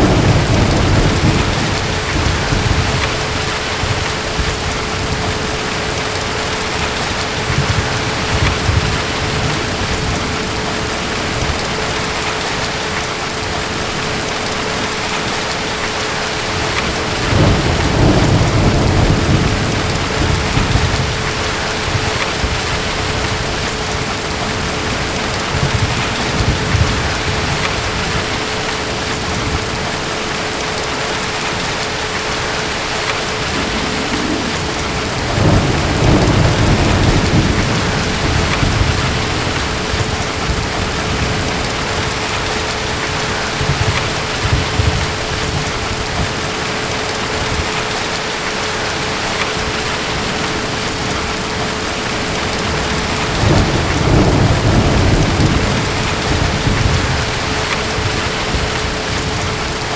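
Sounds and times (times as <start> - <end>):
distant thunder rumbling: 0.0 - 59.9
heavy rain: 0.0 - 59.9.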